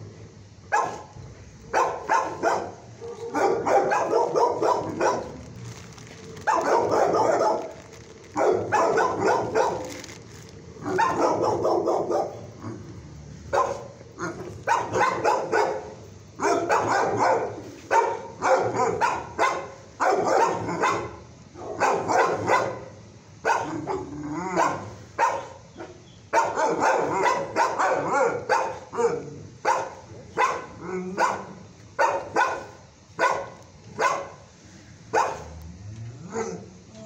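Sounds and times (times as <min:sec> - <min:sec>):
dogs barking: 0:00.7 - 0:10.2, 0:10.8 - 0:12.9, 0:13.5 - 0:34.4, 0:35.1 - 0:35.6.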